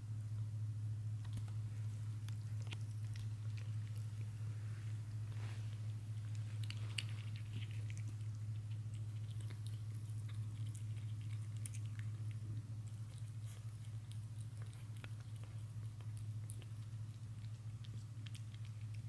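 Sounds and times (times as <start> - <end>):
steady low hum: 0.0 - 19.0
cat licking and chewing: 1.1 - 19.0.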